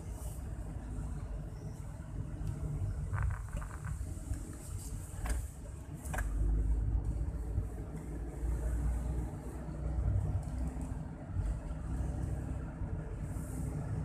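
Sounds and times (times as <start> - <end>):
engine and road noise rumble: 0.0 - 14.0.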